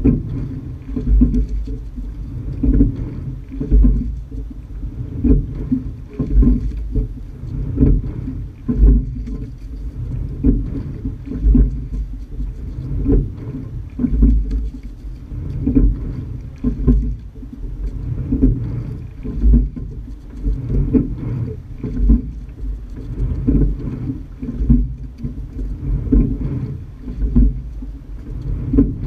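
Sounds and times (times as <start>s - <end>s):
low rumble: 0.0s - 29.0s
oars stroking: 0.0s - 29.0s
water rushing along hull: 0.0s - 29.0s.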